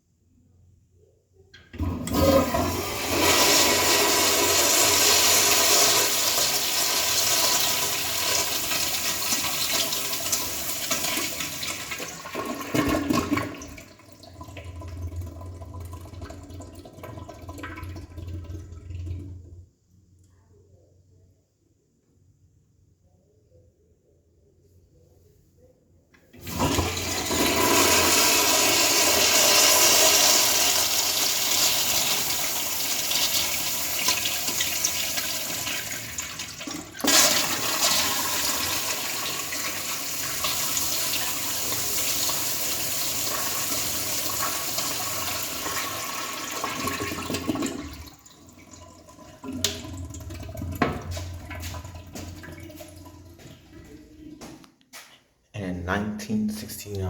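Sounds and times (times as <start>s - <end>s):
urinal flushing water rushing: 1.7s - 19.7s, 26.4s - 54.4s.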